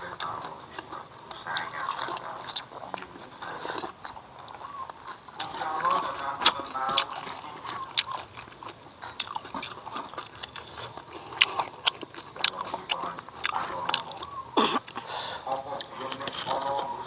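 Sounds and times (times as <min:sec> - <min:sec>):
crunchy clicks: 0:00.0 - 0:17.0
person chewing food: 0:00.0 - 0:17.0.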